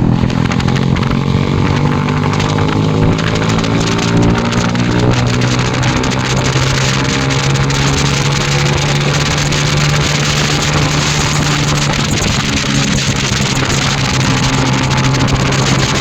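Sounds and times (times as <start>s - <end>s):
motorcycle engine running hard: 0.0s - 16.0s
rushing noise: 0.0s - 16.0s.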